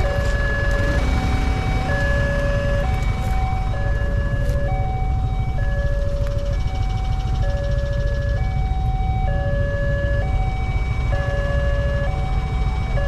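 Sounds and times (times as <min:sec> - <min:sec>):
low rumble: 0:00.0 - 0:11.3
level crossing two-tone alarm: 0:00.0 - 0:13.0.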